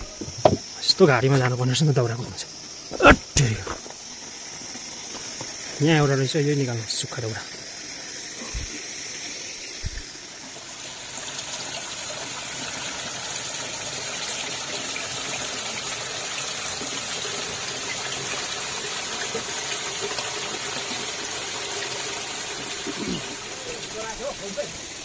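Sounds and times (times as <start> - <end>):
stream running over rocks: 0.0 - 25.0.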